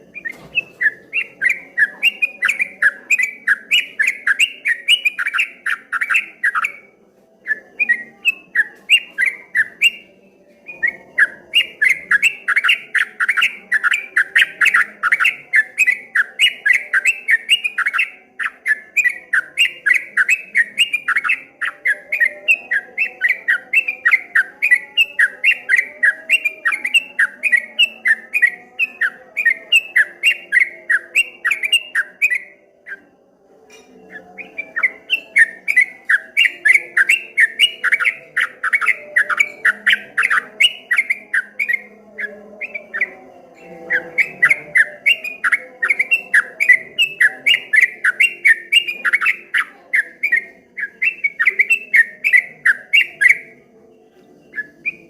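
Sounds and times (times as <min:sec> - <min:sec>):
bulbul singing rippling song: 0:00.0 - 0:33.0, 0:33.7 - 0:55.0.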